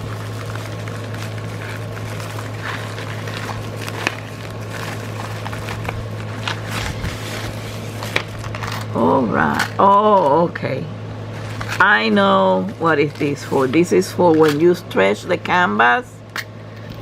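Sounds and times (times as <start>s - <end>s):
bubble mailer rustling: 0.0s - 10.4s, 11.3s - 15.2s
low electrical hum: 0.0s - 17.0s.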